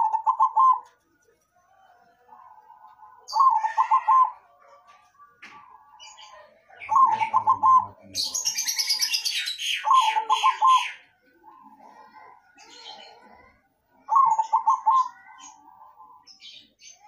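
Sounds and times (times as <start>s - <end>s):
dove cooing: 0.0s - 1.0s, 1.7s - 4.7s, 5.6s - 16.3s.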